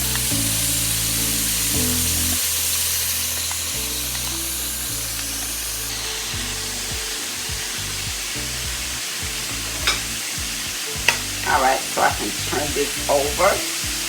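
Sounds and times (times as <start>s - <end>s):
background music: 0.0s - 14.0s
chicken sizzling in a frying pan: 0.0s - 14.0s.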